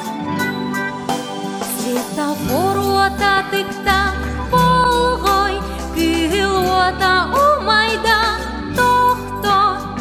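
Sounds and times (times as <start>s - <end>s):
instrumental backing: 0.0s - 10.0s.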